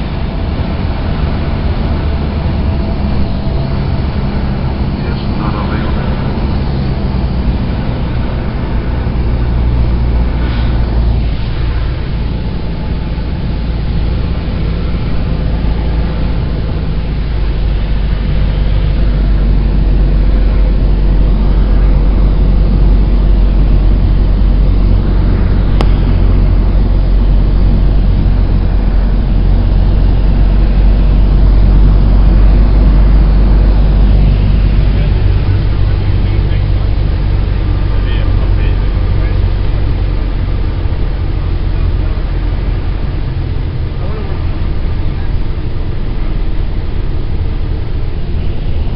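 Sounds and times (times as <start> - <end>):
piston engine and propeller drone: 0.0 - 48.9.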